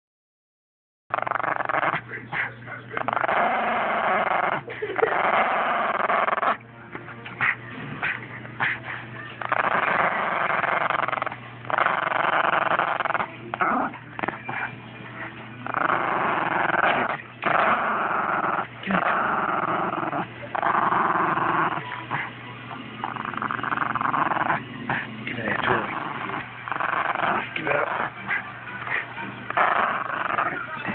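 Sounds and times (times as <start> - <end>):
dog growling: 1.1 - 30.9.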